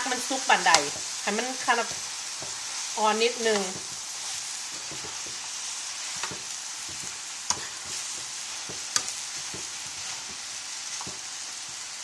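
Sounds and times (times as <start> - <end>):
food sizzling in a frying pan: 0.0 - 12.0
spatula scraping a pan: 0.1 - 12.0.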